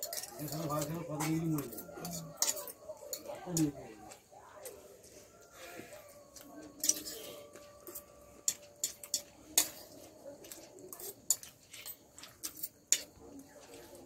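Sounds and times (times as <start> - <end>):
forks clinking on plates: 0.0 - 4.8, 5.6 - 14.0.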